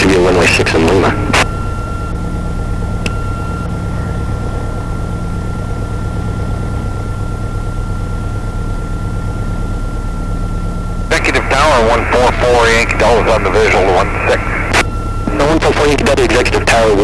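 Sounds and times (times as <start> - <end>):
aircraft engine hum: 0.0 - 17.0
thin high whine: 0.0 - 17.0.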